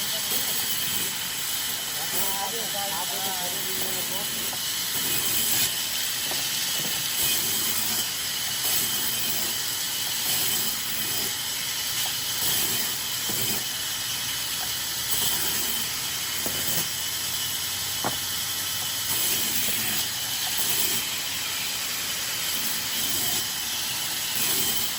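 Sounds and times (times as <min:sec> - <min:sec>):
sawmill machinery hissing: 0:00.0 - 0:24.9.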